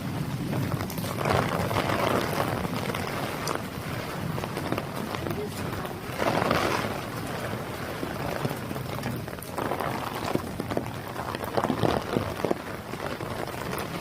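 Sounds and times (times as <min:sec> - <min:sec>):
drips and splashes: 0:00.0 - 0:14.0
heavy rain: 0:00.0 - 0:14.0.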